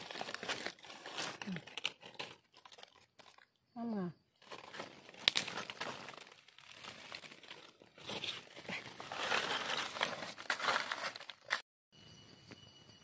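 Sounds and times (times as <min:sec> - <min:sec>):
dry leaves rustling and crackling: 0:00.0 - 0:03.3, 0:04.4 - 0:11.6.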